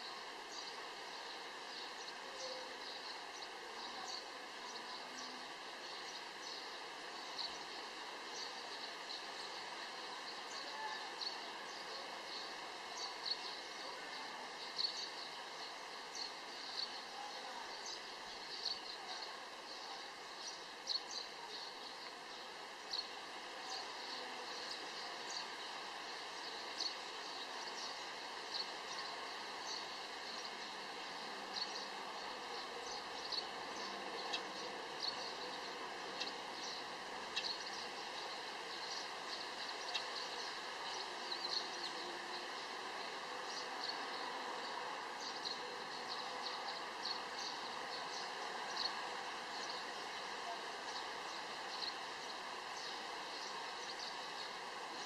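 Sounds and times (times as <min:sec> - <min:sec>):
steady outdoor hiss: 0:00.0 - 0:55.0.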